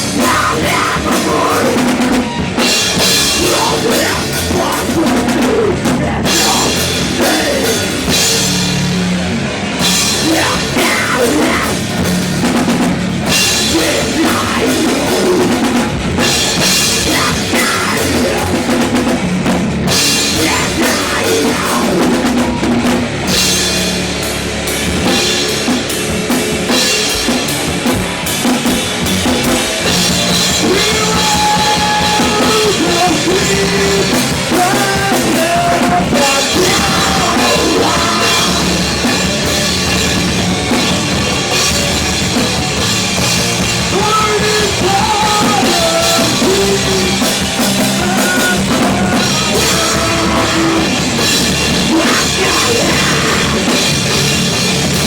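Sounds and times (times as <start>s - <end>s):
rock band playing metalcore: 0.0s - 55.0s.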